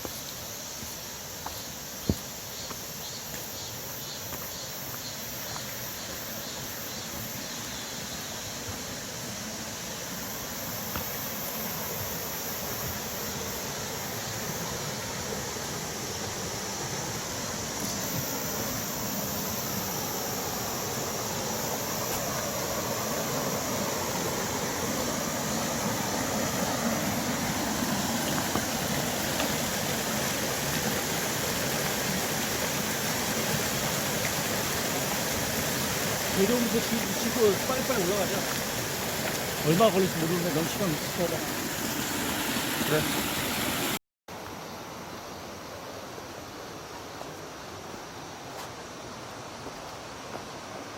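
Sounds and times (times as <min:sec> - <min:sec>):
stream rushing over rocks: 0:00.0 - 0:44.6
high pulsing insect calls: 0:00.0 - 0:50.9.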